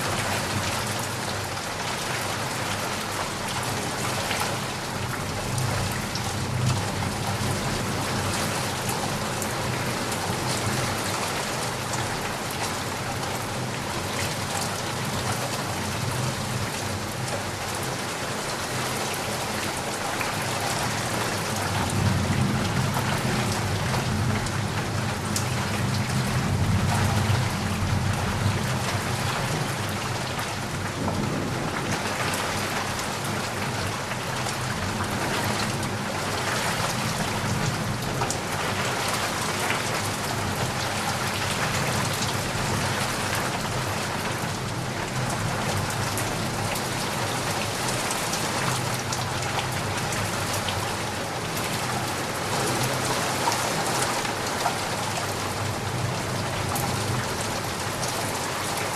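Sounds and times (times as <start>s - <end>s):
steady rain pattering: 0.0s - 58.9s.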